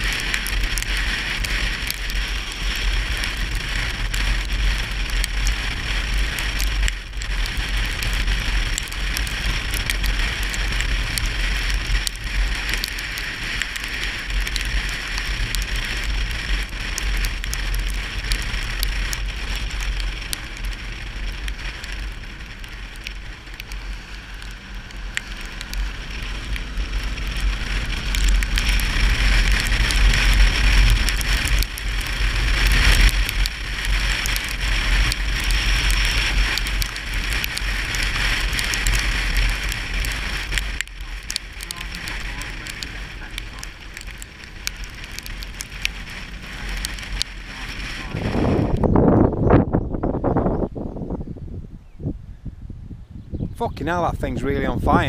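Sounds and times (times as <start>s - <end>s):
fire crackling: 0.0s - 51.3s, 53.5s - 55.0s
low fire rumble: 0.0s - 55.0s.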